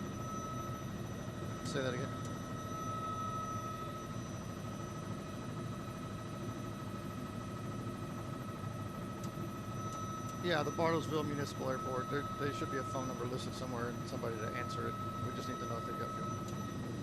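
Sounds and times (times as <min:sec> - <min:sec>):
constant high-pitched tone: 0:00.0 - 0:17.0
helicopter engine and rotor noise: 0:00.0 - 0:17.0.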